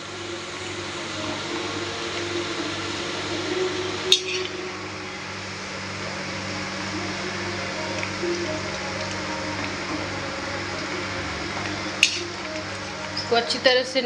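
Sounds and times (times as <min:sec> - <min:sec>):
food sizzling in hot oil: 0:00.2 - 0:14.0
metal skimmer scooping through oil: 0:00.3 - 0:13.8.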